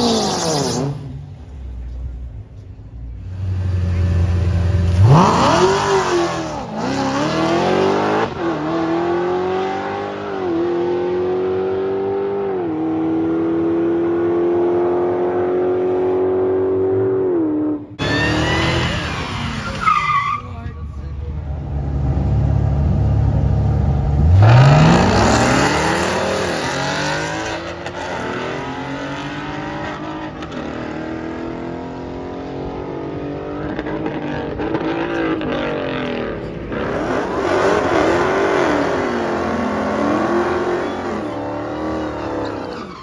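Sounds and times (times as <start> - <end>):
cars revving during burnouts: 3.3 - 16.6, 18.0 - 20.5, 24.1 - 43.0.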